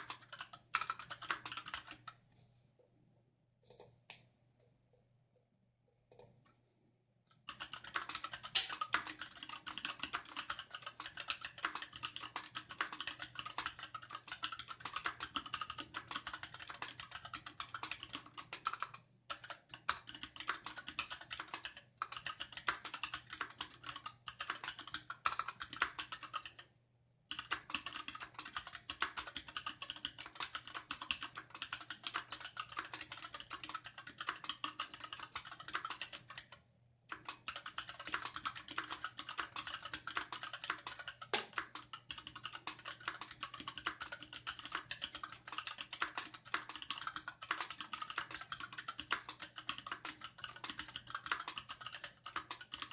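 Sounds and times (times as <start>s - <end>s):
typing on mechanical keyboard: 0.0s - 2.2s, 7.3s - 26.7s, 27.3s - 52.9s.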